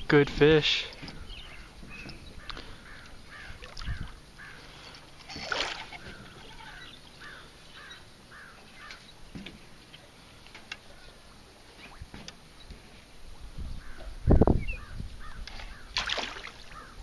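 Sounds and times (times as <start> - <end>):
bird calling: 0.9 - 12.7, 13.8 - 17.0.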